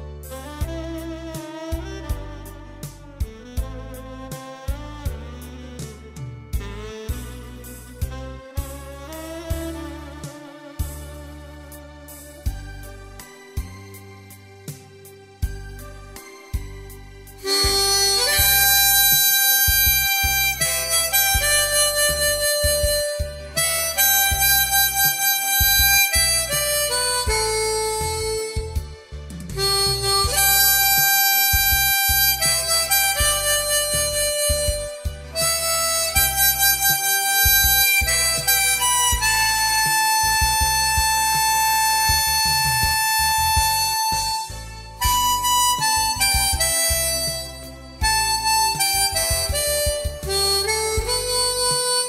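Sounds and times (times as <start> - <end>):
harmonica playing slow melody: 0.0 - 52.0
instrumental backing track: 0.0 - 52.0
low musical accompaniment: 0.0 - 52.0.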